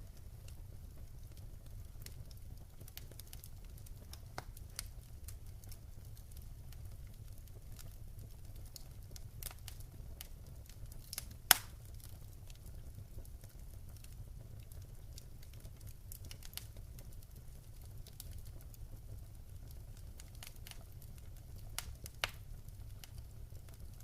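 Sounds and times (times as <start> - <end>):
low fire rumble: 0.0 - 24.0
wood fire crackling: 0.0 - 24.0.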